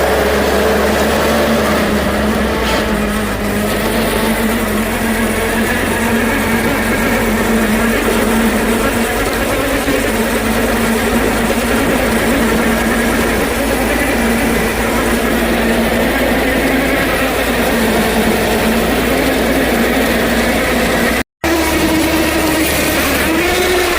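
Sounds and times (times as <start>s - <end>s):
car engine droning: 0.0s - 23.9s
road noise: 0.0s - 23.9s.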